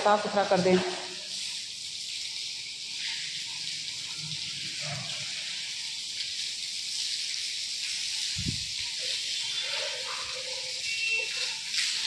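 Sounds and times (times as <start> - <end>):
hose water splashing on concrete: 0.0 - 12.0.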